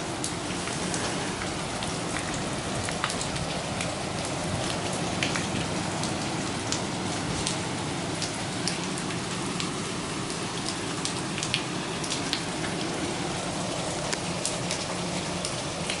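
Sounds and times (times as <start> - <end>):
rush of falling water: 0.0 - 16.0
small splashes and drips: 0.0 - 16.0.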